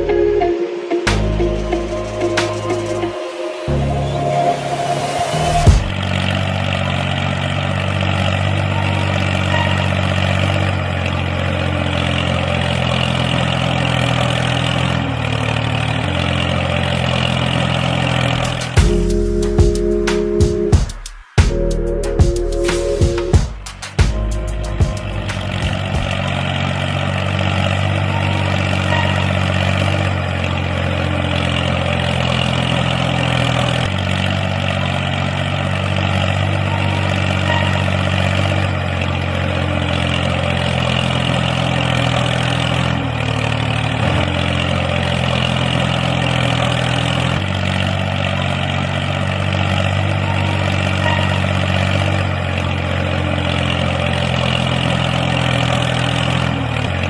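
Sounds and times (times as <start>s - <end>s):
engine idling: 1.1s - 57.0s.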